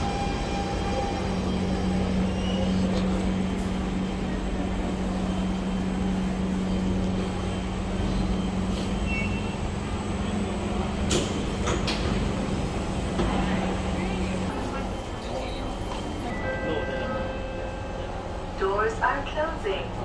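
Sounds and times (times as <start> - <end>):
train humming and rumbling: 0.0 - 20.0.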